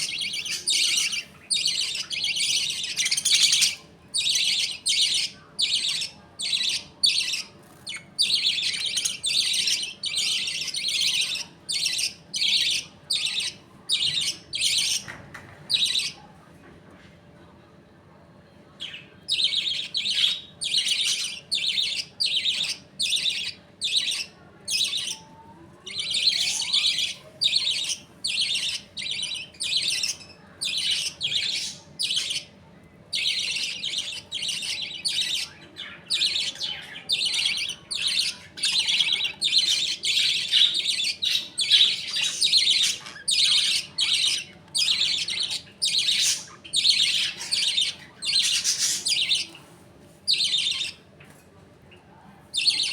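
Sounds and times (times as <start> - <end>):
budgerigars calling: 0.0 - 15.0, 18.8 - 25.2, 25.9 - 32.5, 33.1 - 49.5, 50.3 - 51.0, 52.6 - 52.9.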